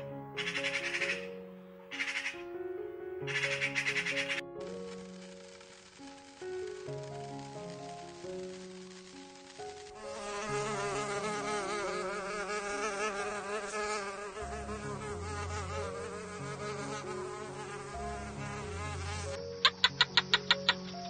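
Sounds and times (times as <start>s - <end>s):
fly buzzing: 0.0s - 2.5s, 3.2s - 21.0s.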